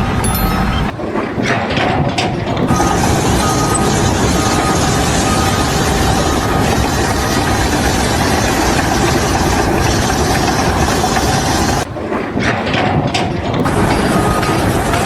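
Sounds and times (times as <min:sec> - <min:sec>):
loud machinery noise: 0:00.0 - 0:15.0.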